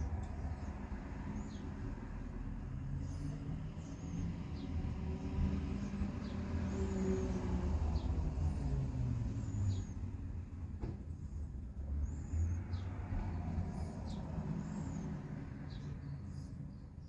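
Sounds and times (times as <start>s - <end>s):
vehicle passing on road: 0.0s - 16.6s.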